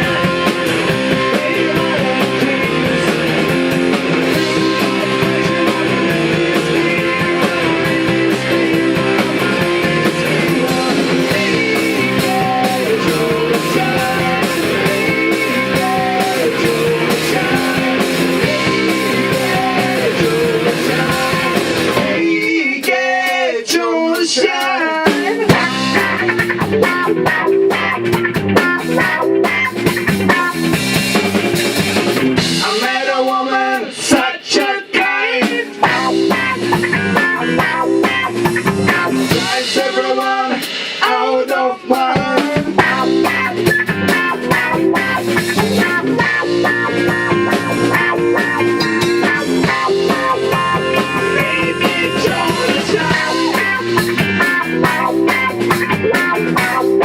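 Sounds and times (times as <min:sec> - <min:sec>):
electric guitar: 0:00.0 - 0:22.5, 0:24.8 - 0:34.2, 0:35.3 - 0:57.0
bass: 0:00.0 - 0:57.0
drum kit: 0:00.0 - 0:57.0.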